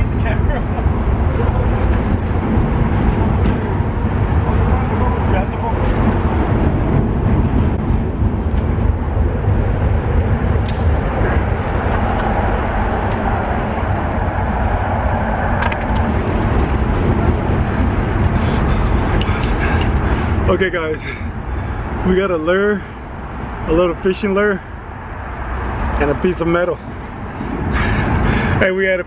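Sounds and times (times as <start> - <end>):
highway traffic rumble: 0.0 - 29.0.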